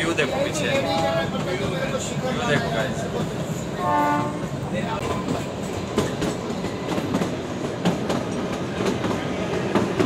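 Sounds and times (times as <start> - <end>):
train carriage running: 0.0 - 10.0
train wheels clacking: 0.0 - 10.0.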